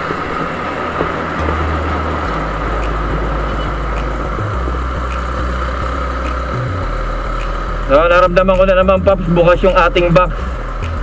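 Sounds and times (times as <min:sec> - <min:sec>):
motorcycle engine drone: 0:00.0 - 0:11.0
wind and road noise: 0:00.0 - 0:11.0.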